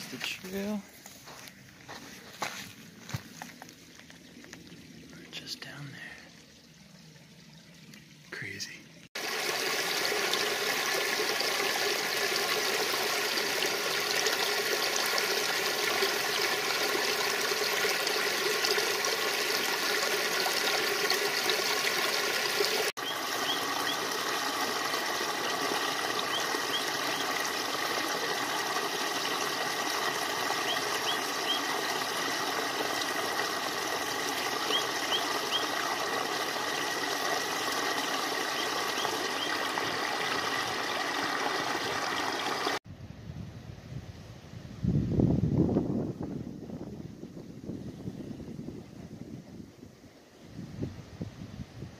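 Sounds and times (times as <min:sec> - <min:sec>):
stream trickling over stones: 0:00.0 - 0:42.8.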